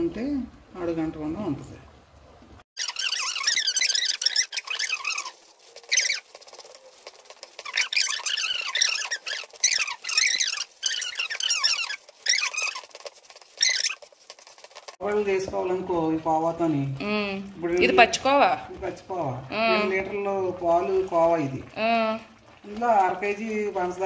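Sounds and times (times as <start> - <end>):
spatula scraping pan: 2.8 - 24.0
spatula stirring bubbling milk: 2.8 - 24.0.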